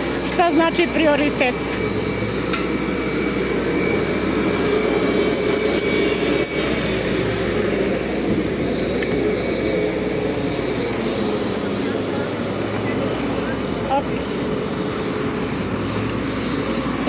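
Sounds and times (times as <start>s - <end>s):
constant hum: 0.0s - 17.0s
machinery drone: 0.0s - 17.0s.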